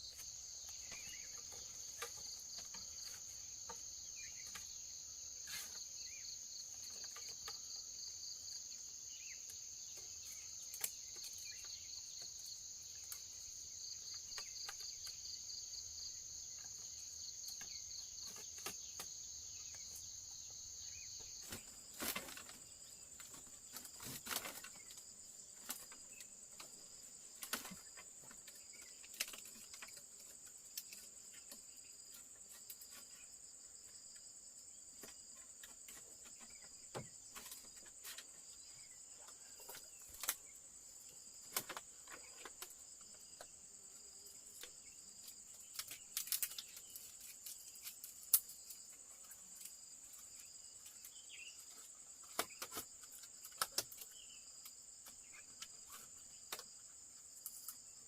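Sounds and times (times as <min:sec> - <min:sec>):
insect chirring: 0:00.0 - 0:58.0.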